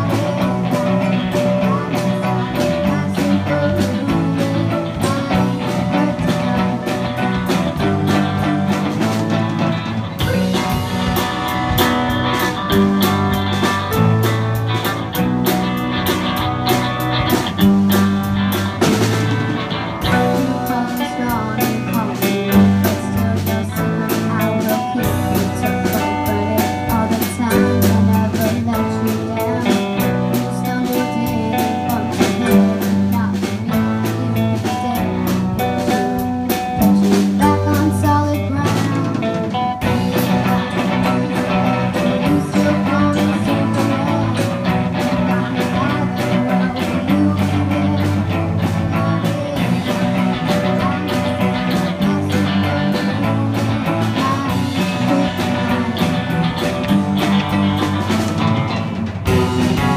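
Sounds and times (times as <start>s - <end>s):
girl singing: 0.0s - 14.3s, 20.0s - 58.2s, 59.3s - 59.9s
drum kit: 0.0s - 59.9s
electric bass: 0.0s - 59.9s
electric guitars: 0.0s - 59.9s.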